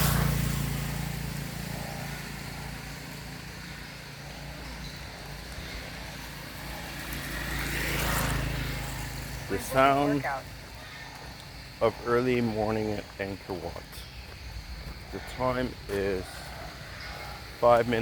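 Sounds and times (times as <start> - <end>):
low engine hum: 0.0 - 18.0
vehicles passing: 0.0 - 18.0.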